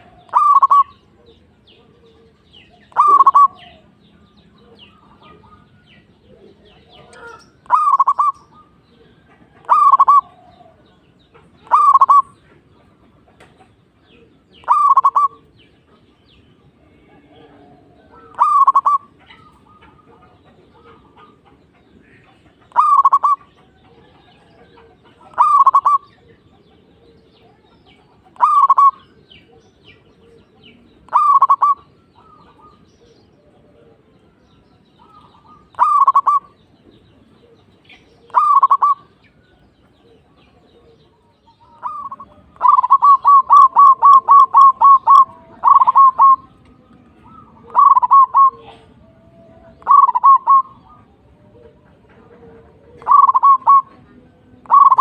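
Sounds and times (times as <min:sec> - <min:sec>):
dove cooing: 0:00.0 - 0:04.0, 0:04.6 - 0:13.2, 0:13.8 - 0:16.0, 0:16.9 - 0:55.0.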